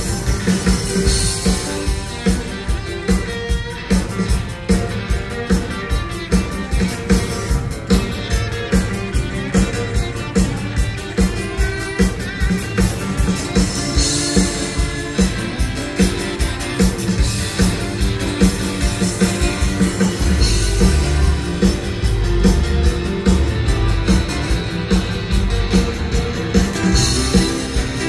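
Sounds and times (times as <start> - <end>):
bass guitar: 0.0 - 28.0
drum kit steady beat: 0.0 - 28.0
rock guitars: 0.0 - 28.0.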